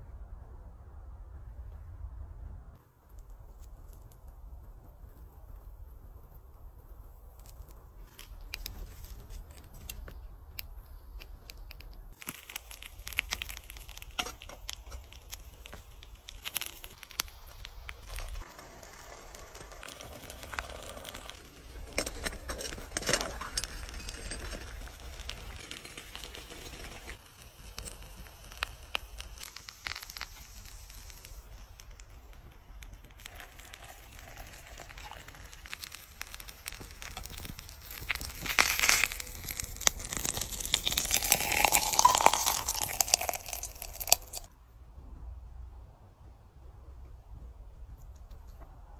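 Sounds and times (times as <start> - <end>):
flames crackling and fluttering: 2.7 - 44.6.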